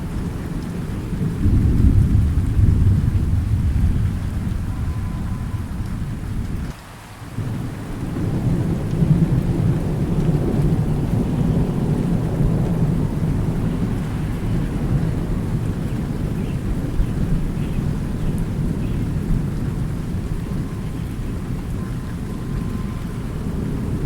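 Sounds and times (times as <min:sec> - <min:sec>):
rolling thunder: 0:00.0 - 0:24.0
steady rain: 0:00.0 - 0:24.0.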